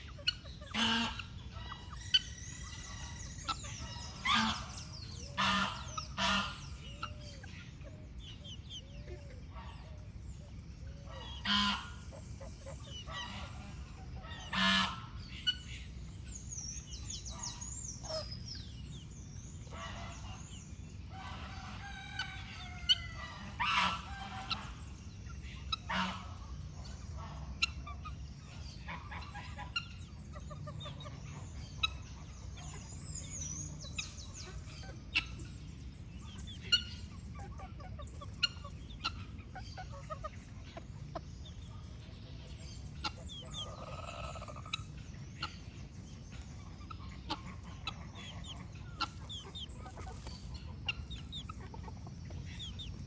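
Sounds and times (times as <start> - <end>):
hens clucking: 0.0 - 53.0
small birds twittering: 0.0 - 53.0.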